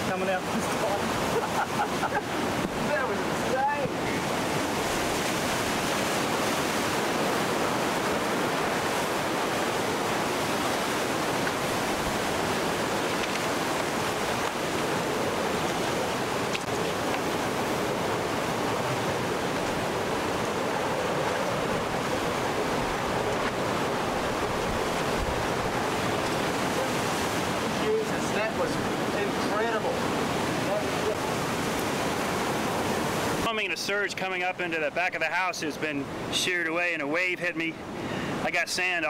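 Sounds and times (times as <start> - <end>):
strong wind: 0.0 - 33.5
surf and floodwater rushing: 0.0 - 39.0.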